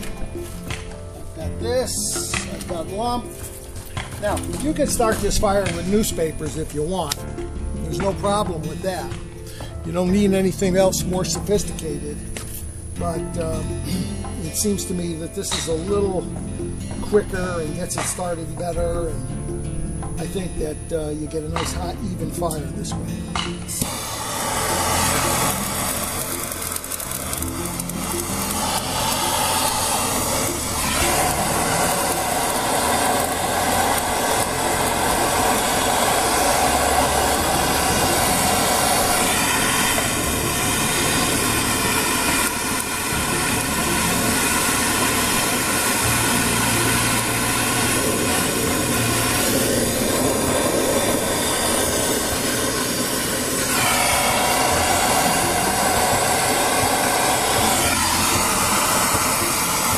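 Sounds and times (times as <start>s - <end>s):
gas torch flame hissing: 0.0s - 19.2s, 20.0s - 59.9s.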